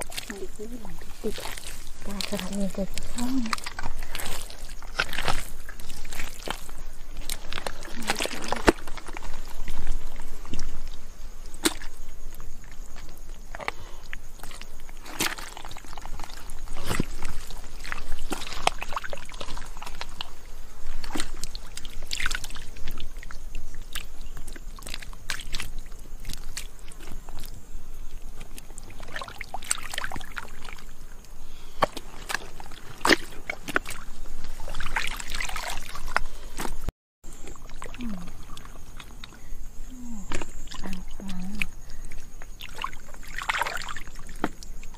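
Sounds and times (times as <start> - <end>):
water splashes and knocks: 0.0 - 13.8, 14.4 - 27.5, 28.2 - 30.9, 31.8 - 39.4, 40.3 - 44.9
hands sloshing in muddy water: 0.0 - 44.9.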